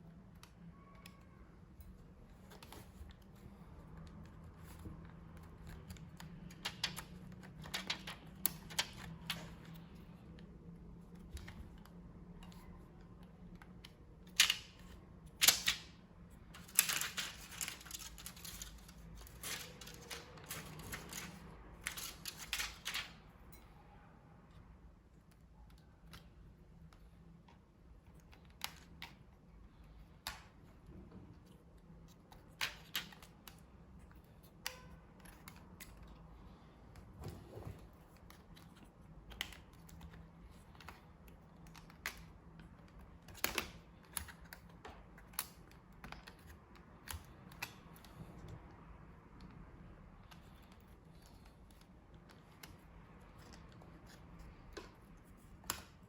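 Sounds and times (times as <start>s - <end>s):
small parts clicking and tapping: 0.0s - 23.8s, 24.4s - 36.7s, 38.1s - 56.0s.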